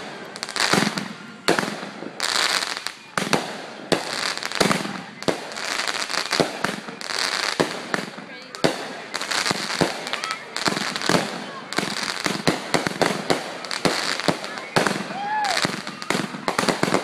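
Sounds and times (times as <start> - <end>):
fireworks bangs: 0.0 - 17.0
hissing crackling firework trails: 0.0 - 17.0.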